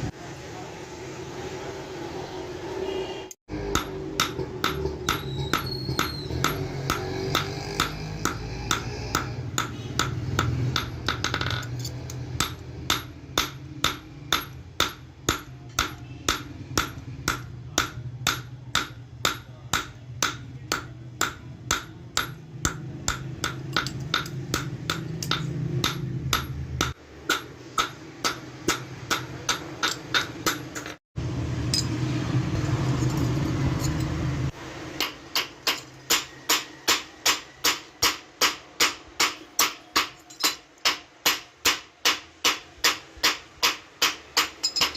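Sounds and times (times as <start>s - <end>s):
hammer striking steel on anvil: 3.5s - 31.0s, 34.9s - 44.9s.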